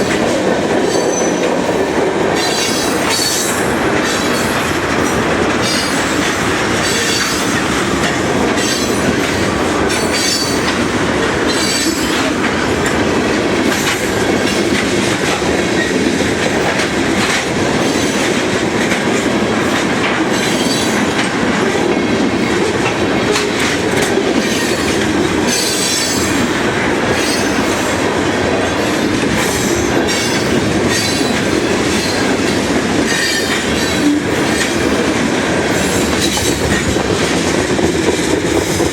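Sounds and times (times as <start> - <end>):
train wheels rumbling on rails: 0.0 - 38.9
wheels clicking on rails: 0.0 - 38.9.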